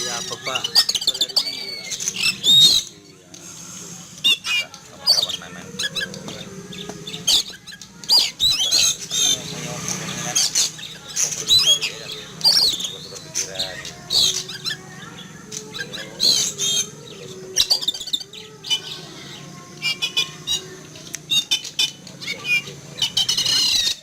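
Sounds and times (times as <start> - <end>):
bird calling and squawking: 0.0 - 24.0.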